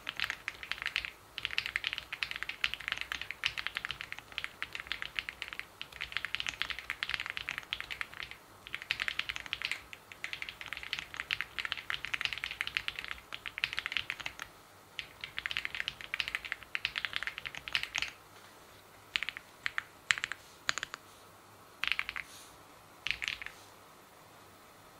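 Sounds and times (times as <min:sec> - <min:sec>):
typing on mechanical keyboard: 0:00.0 - 0:18.2, 0:19.1 - 0:21.0, 0:21.8 - 0:22.3, 0:23.0 - 0:23.6.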